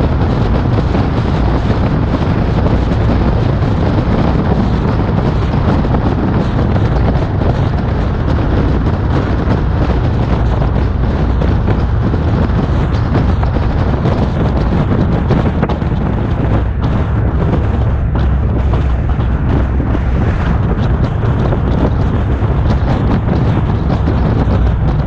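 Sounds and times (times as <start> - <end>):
car driving: 0.0 - 25.0
wind buffeting microphone: 0.0 - 25.0.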